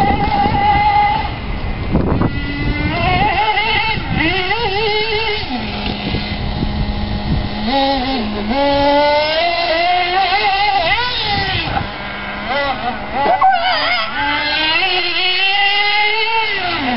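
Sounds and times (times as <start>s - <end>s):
toy buggy engine whining: 0.0s - 16.9s.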